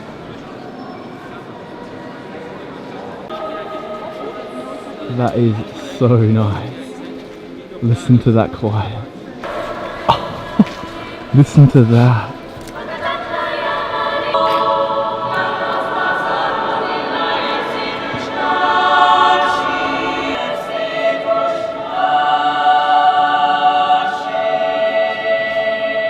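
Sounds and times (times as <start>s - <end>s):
choir singing sustained chords: 0.0s - 8.4s, 9.3s - 26.0s.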